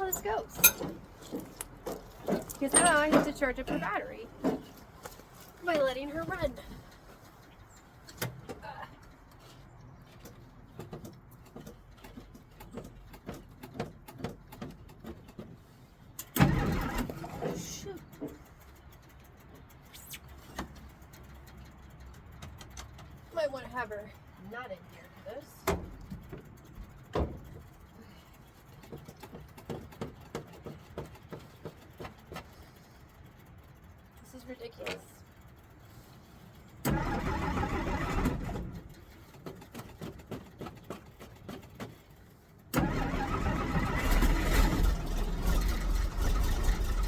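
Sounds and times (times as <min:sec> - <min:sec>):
accelerator pedal clicking and creaking: 0:00.0 - 0:47.0.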